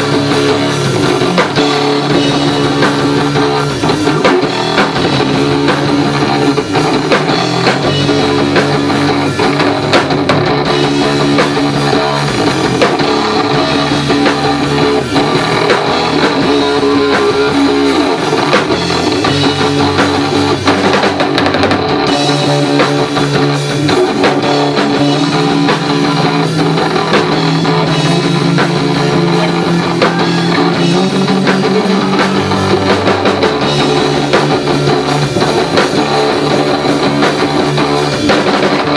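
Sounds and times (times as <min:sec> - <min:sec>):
bass guitar: 0:00.0 - 0:38.9
distorted electric guitar riffing: 0:00.0 - 0:38.9
drum kit: 0:00.0 - 0:38.9.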